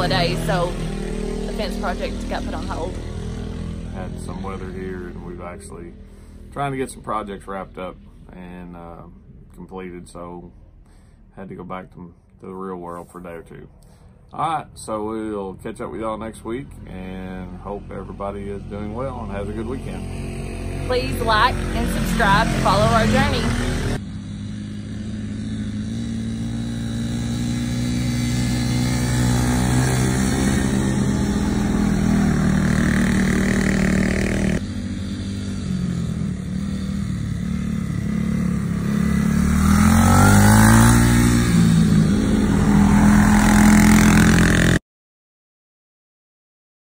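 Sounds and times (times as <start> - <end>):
off-road vehicle engines revving: 0.0 - 10.0, 15.4 - 44.8.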